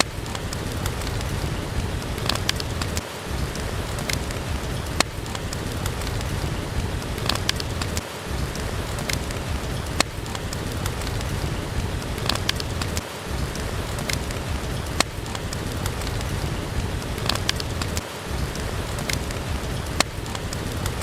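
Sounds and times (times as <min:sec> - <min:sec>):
rain falling: 0:00.0 - 0:21.0
wood fire crackling: 0:00.0 - 0:21.0.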